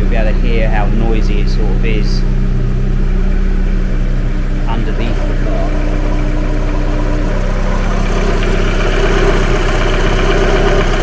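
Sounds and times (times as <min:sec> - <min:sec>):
car engine idling: 0:00.0 - 0:11.0
rapid engine tapping knock: 0:00.0 - 0:11.0.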